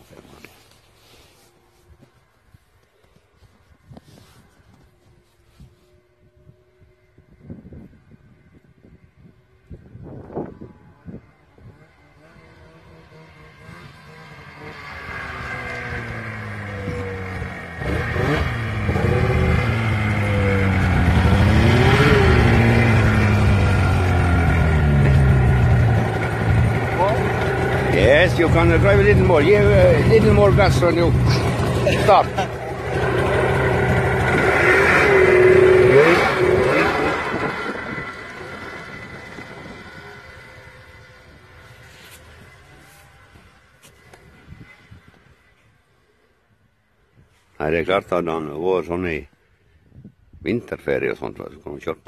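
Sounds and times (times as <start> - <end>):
snowmobile engine running: 3.8 - 45.9.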